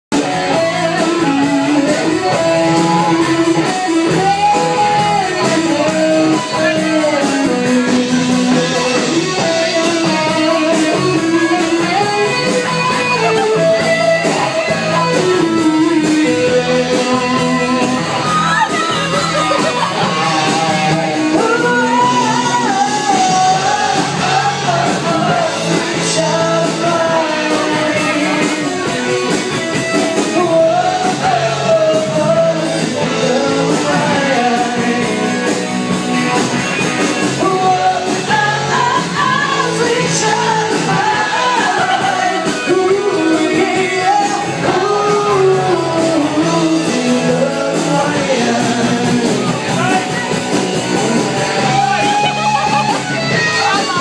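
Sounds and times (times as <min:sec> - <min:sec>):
loud music with singing: 0:00.1 - 0:54.0.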